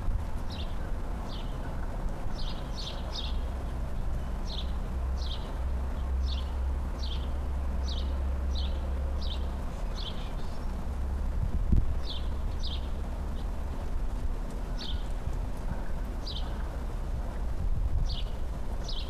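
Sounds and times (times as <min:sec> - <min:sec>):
low steady rumble: 0:00.0 - 0:19.0
songbird chirping: 0:00.4 - 0:11.0, 0:12.0 - 0:13.8, 0:14.4 - 0:17.4, 0:18.0 - 0:19.0.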